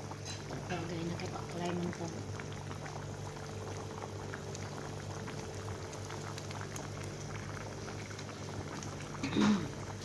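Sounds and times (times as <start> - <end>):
broth boiling with bubbling pops: 0.0 - 10.0.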